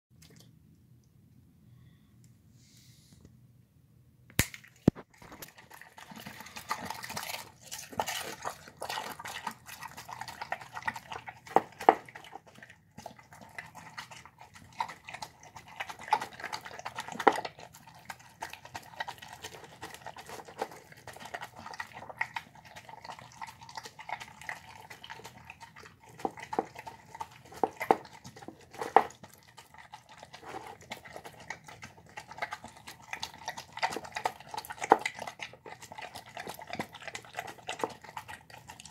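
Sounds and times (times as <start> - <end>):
dog chewing and lip-smacking: 4.9 - 38.9.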